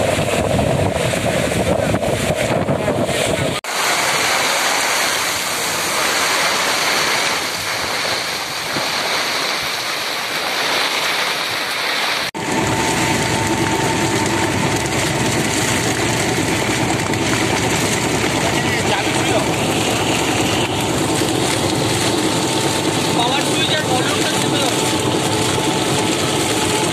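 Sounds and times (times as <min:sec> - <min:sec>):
heavy rain pouring: 0:00.0 - 0:26.9.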